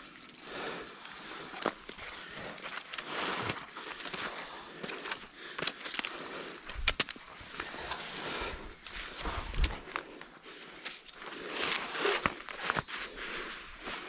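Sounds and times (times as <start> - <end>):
twigs cracking: 0.6 - 14.0.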